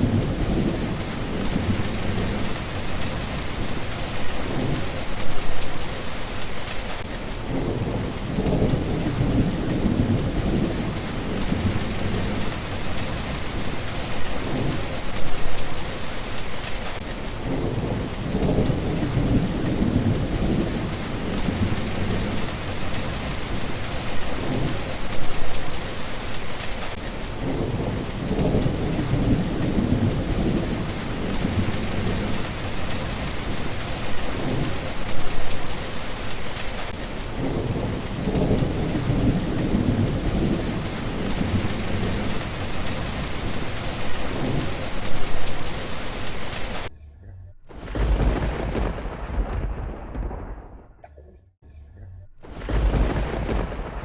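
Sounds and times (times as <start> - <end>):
low thunder rolls: 0.0 - 46.9, 47.7 - 51.0, 52.4 - 54.0
steady rain: 0.0 - 46.9, 47.7 - 50.9, 52.4 - 54.0.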